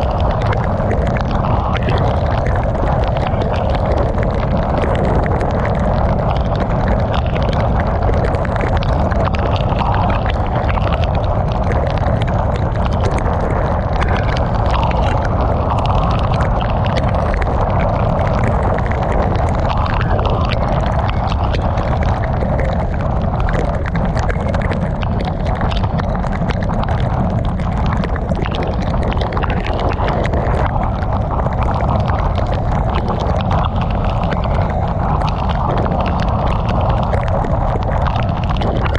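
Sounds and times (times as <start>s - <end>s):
heavy rain hitting a car: 0.0s - 38.9s
road and wind rumble: 0.0s - 38.9s.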